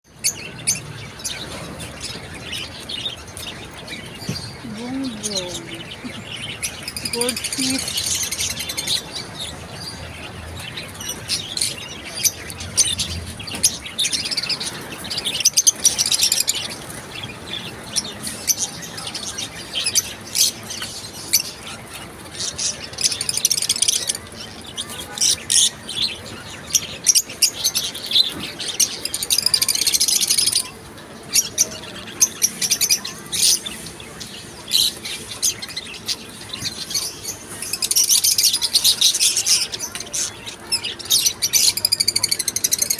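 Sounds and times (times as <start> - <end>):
flock of small birds chirping: 0.1 - 42.9.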